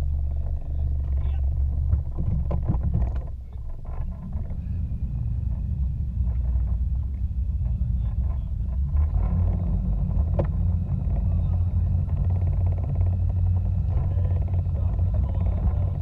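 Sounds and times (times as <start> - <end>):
boat engine idling: 0.0 - 16.0
sharp clicks and knocks: 0.2 - 4.6, 5.5 - 16.0.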